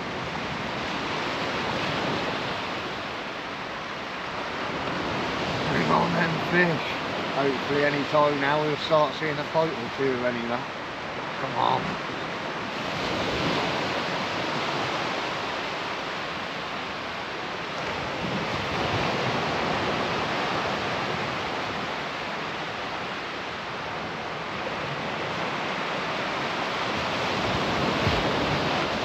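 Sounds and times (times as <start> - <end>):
surf breaking onto shore: 0.0 - 29.0.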